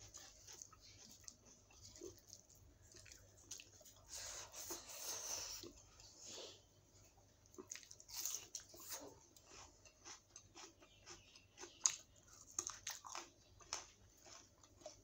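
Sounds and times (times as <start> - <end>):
person chewing food: 0.0 - 6.4, 7.4 - 15.0.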